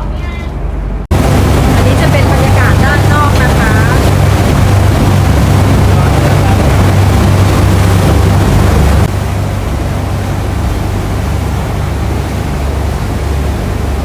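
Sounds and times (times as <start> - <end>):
boat engine rumbling: 0.0 - 14.0
wind and water rushing: 0.6 - 14.0.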